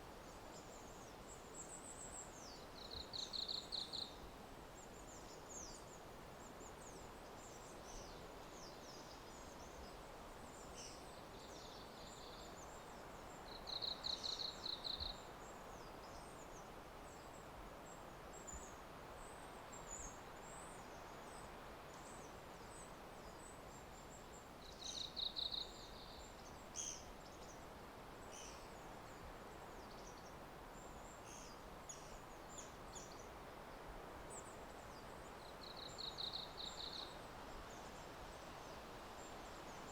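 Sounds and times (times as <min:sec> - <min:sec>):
soft background hiss: 0:00.0 - 0:39.9
small birds chirping: 0:00.2 - 0:04.2, 0:04.8 - 0:17.4, 0:18.3 - 0:38.0.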